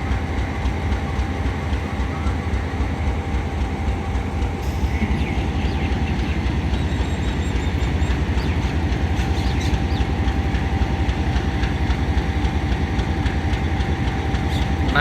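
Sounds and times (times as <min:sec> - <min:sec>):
faint high whine: 0:00.0 - 0:15.0
train heavy rumble: 0:00.0 - 0:15.0.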